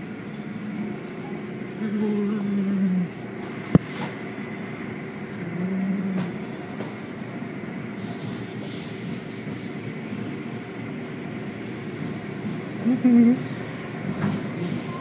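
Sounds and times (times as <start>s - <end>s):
car wash machinery rumble and hiss: 0.0s - 15.0s.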